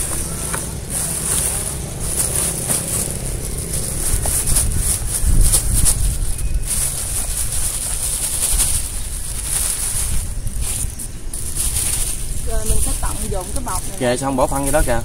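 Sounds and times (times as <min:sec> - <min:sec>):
plastic bag and soil rustling: 0:00.0 - 0:15.0
wind on microphone: 0:00.0 - 0:15.0.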